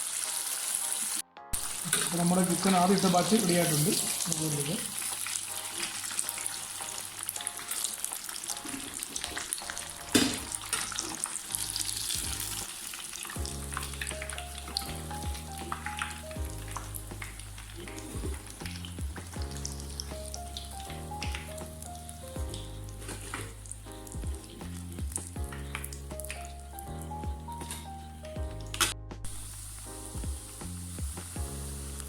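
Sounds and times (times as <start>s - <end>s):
background music: 0.0s - 32.0s
food sizzling in hot oil: 0.0s - 32.0s.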